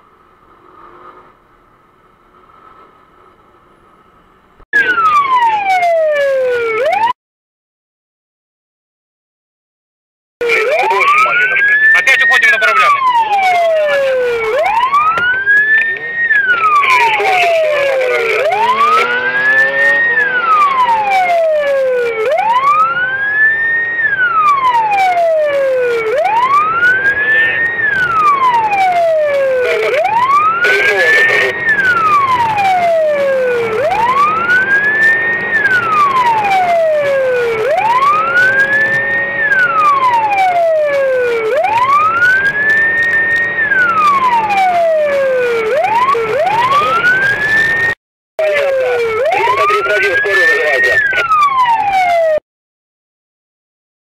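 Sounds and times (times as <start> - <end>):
emergency siren wailing: 4.7 - 7.2, 10.4 - 52.4.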